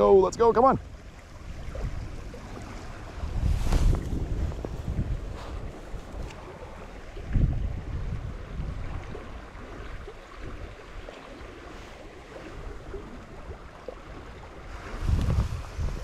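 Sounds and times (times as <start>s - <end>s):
wind buffeting microphone: 0.0s - 16.0s
creek rushing over rocks: 1.4s - 16.0s.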